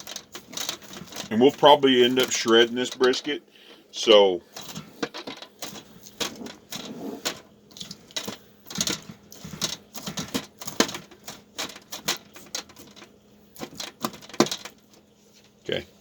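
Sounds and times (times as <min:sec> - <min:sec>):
light clicks and knocks of kitchen work: 0:00.0 - 0:15.6.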